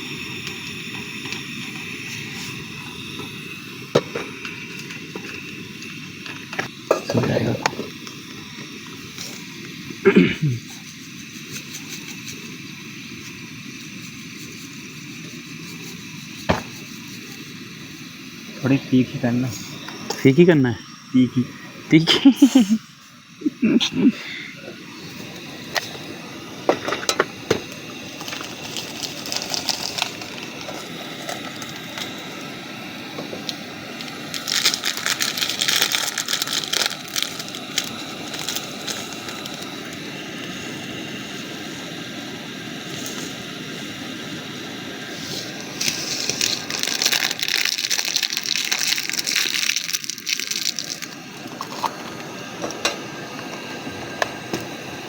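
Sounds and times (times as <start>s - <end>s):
gas stove burner hissing: 0.0s - 55.0s.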